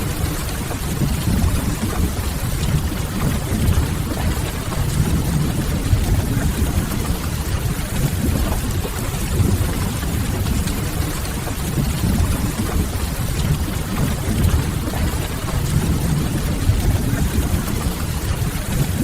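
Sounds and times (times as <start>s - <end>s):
steady rain: 0.0s - 19.0s
deep low rumble: 1.0s - 10.9s, 11.7s - 18.3s.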